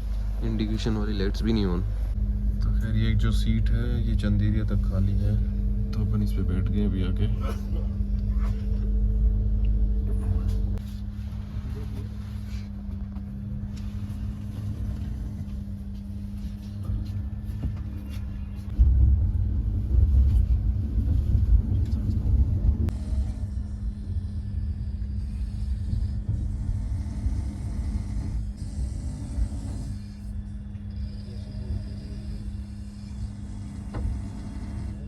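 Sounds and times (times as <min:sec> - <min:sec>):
constant hum: 0:00.0 - 0:35.0
train rumble: 0:00.0 - 0:35.0.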